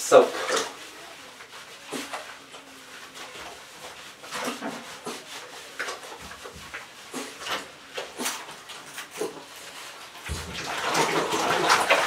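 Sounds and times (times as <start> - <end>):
hands lathering wet fur: 0.0 - 12.0
water sloshing: 0.1 - 12.0.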